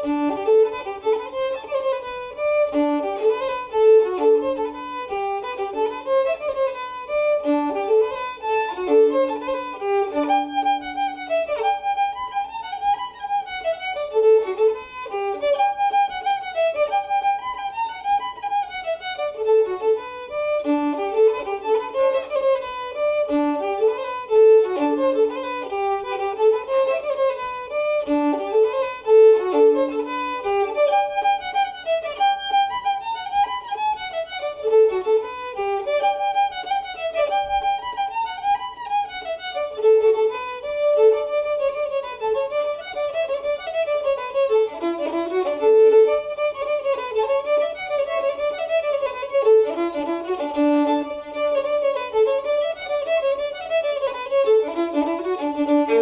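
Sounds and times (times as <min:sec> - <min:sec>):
solo fiddle dance tune: 0:00.0 - 0:56.0.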